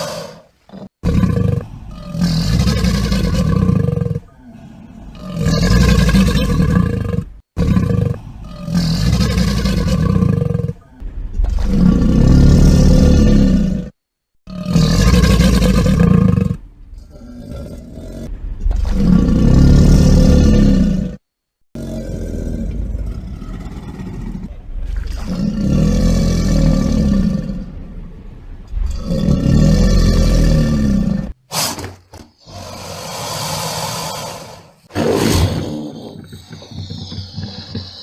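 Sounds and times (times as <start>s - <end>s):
crocodile roaring: 0.0s - 10.8s, 11.4s - 13.9s, 14.5s - 21.2s, 21.8s - 31.4s, 32.4s - 38.0s.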